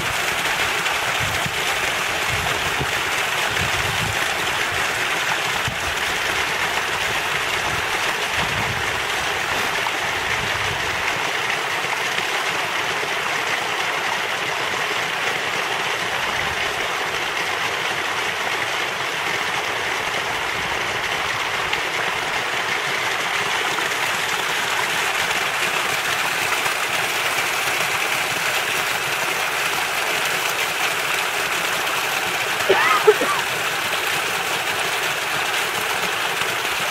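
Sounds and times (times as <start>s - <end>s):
water running in a ditch: 0.0s - 36.9s.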